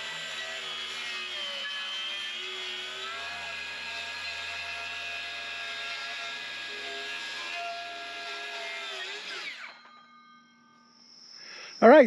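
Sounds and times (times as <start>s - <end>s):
circular saw running: 0.0s - 9.9s.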